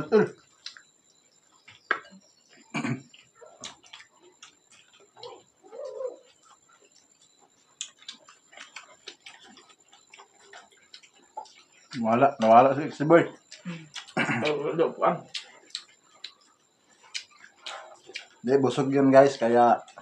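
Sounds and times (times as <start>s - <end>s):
smacking and chewing: 0.4s - 20.0s.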